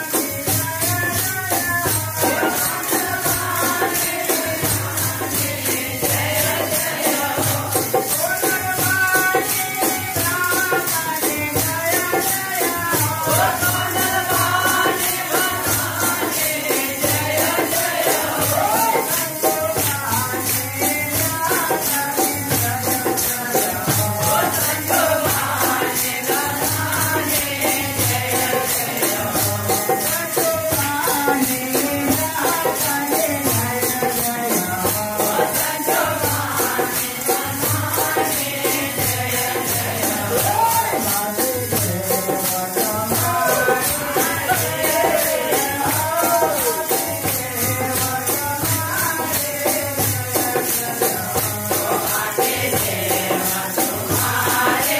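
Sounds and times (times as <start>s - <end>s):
group singing: 0.0s - 54.9s
hand cymbals jingling: 0.0s - 54.9s.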